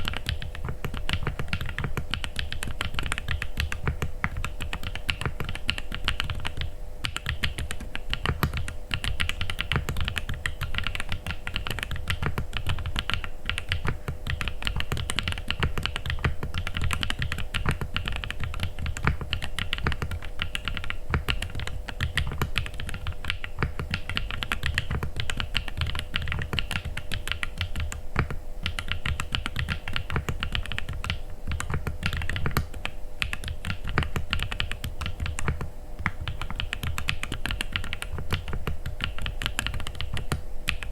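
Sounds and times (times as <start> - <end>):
faint steady hum: 0.0 - 40.9
mechanical keyboard typing: 0.0 - 40.9.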